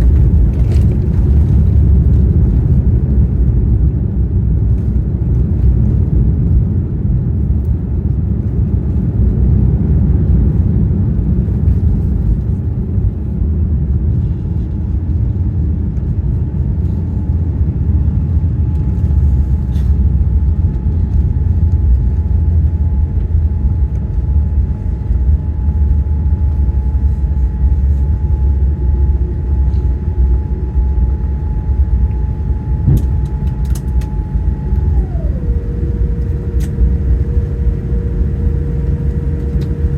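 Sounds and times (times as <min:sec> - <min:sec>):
airplane cabin rumble: 0:00.0 - 0:39.9
steady whine: 0:00.0 - 0:39.9.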